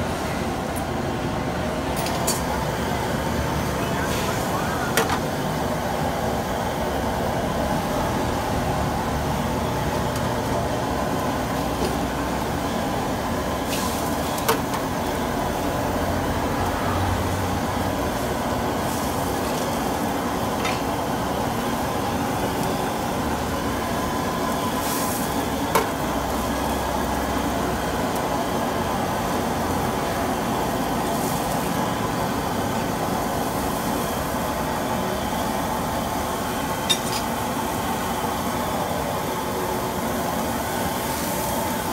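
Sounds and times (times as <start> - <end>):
food sizzling and bubbling: 0.0 - 41.9
gas burner roaring: 0.0 - 41.9.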